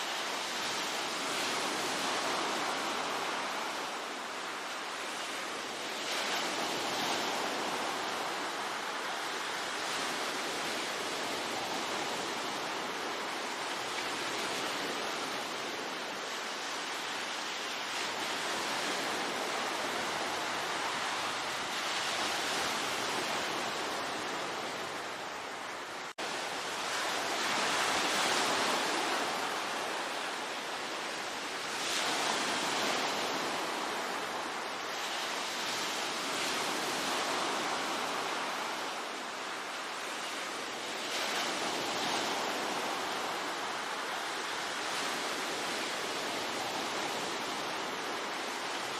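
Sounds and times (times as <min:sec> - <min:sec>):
sea waves washing on shore: 0:00.0 - 0:48.9.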